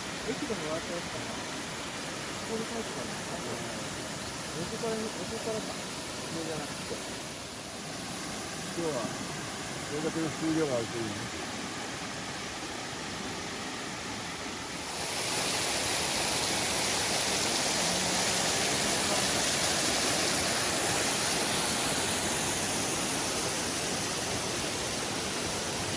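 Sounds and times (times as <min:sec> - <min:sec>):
waterfall rushing over rock: 0:00.0 - 0:25.9.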